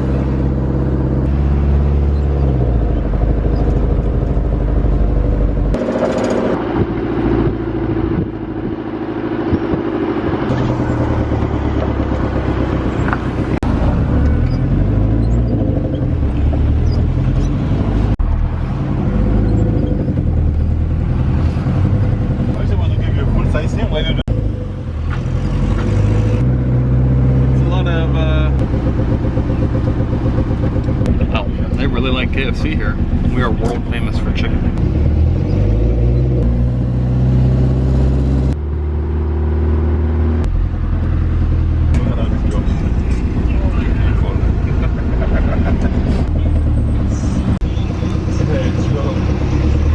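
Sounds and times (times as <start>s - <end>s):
road and engine noise in car: 0.0s - 49.9s.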